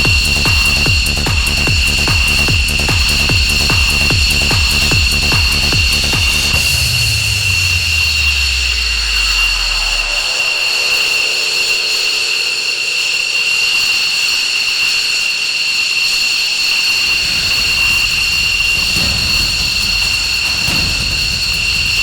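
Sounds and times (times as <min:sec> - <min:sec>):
low rumble: 0:00.0 - 0:12.8, 0:17.0 - 0:22.0
jet engines whining: 0:00.0 - 0:22.0.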